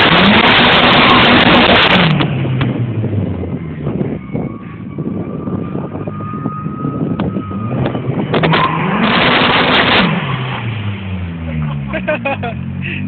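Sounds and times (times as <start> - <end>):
car engine with exhaust leak: 0.0 - 13.0
engine revving: 0.0 - 13.0.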